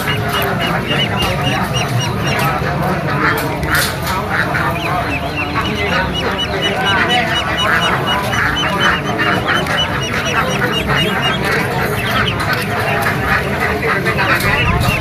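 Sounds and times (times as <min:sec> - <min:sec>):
ducklings quacking and peeping: 0:00.0 - 0:15.0.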